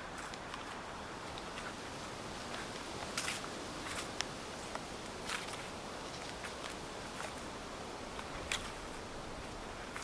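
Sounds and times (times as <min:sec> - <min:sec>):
footsteps crunching dry leaves: 0:00.0 - 0:10.0
steady outdoor hiss: 0:00.0 - 0:10.0.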